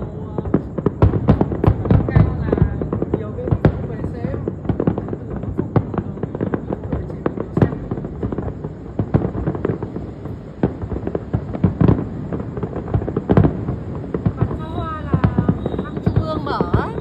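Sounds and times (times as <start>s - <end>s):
fireworks bangs and crackles: 0.0s - 17.0s
loud firework booms: 0.0s - 17.0s.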